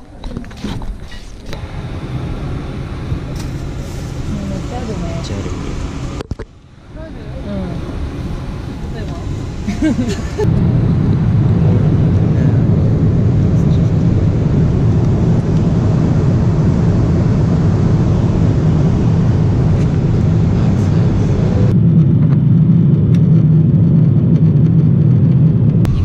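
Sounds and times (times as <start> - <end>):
low drone of engines and airflow: 0.0 - 26.0.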